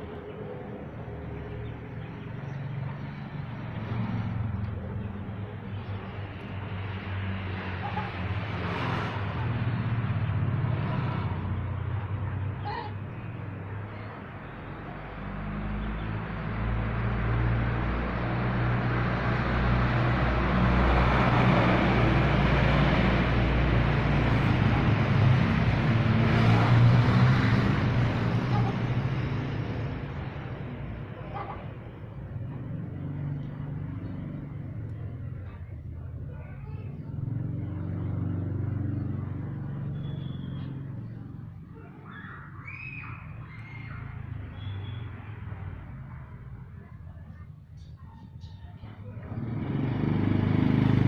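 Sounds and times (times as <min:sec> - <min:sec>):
vehicle engine passing by: 0:00.0 - 0:48.0, 0:48.8 - 0:51.0.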